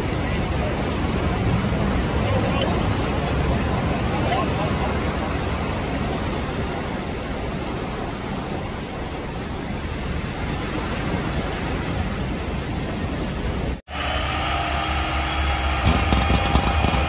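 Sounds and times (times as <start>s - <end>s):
surf washing ashore: 0.0s - 17.0s.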